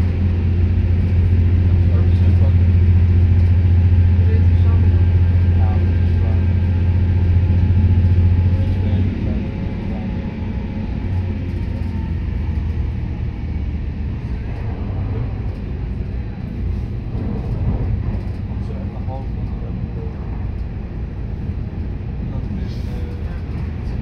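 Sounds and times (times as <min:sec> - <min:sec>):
diesel engine deep drone: 0:00.0 - 0:24.0
railcar rumbling over track: 0:00.0 - 0:24.0.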